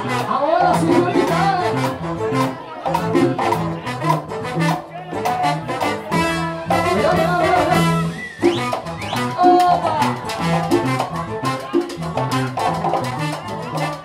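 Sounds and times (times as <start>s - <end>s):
latin dance band playing: 0.0s - 14.0s.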